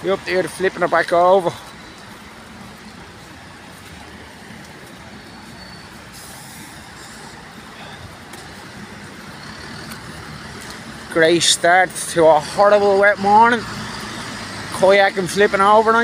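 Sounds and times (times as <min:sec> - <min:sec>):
buses and cars passing: 0:00.0 - 0:16.0.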